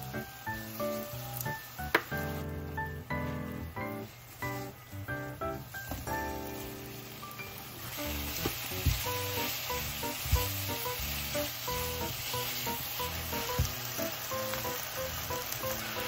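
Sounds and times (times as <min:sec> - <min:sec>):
food sizzling in a frying pan: 0:00.0 - 0:16.0
light background music: 0:00.0 - 0:16.0.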